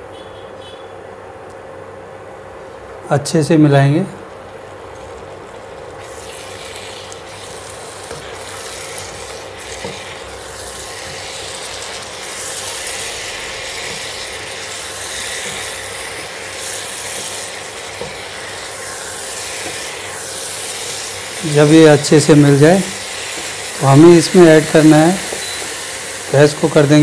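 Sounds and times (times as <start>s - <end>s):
food sizzling: 4.4s - 27.0s.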